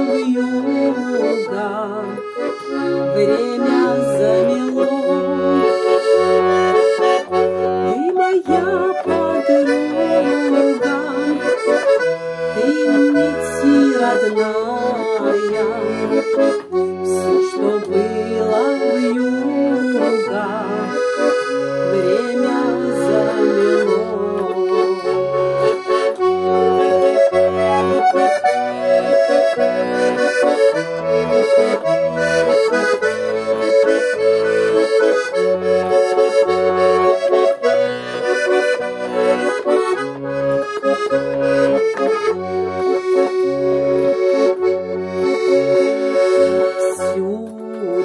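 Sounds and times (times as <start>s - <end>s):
button accordion playing melody: 0.0s - 48.0s.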